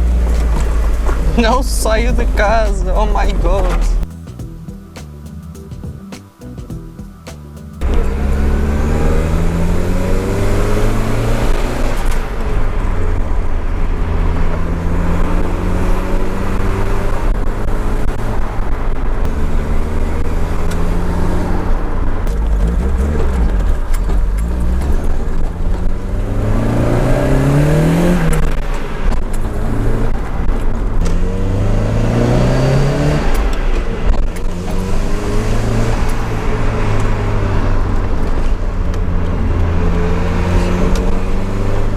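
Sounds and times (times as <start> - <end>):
car engine accelerating through gears: 0.0 - 4.8, 6.4 - 41.9.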